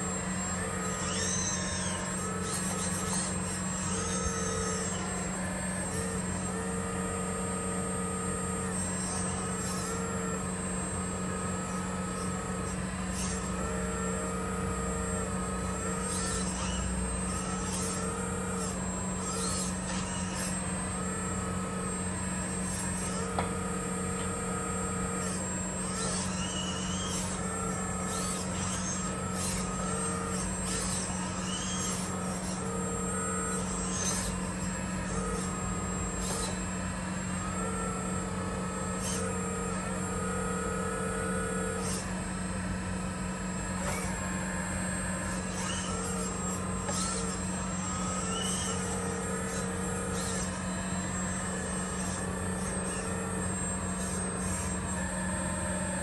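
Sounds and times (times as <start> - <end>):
hydraulic pump hum: 0.0 - 56.0
hydraulic whine: 0.0 - 56.0.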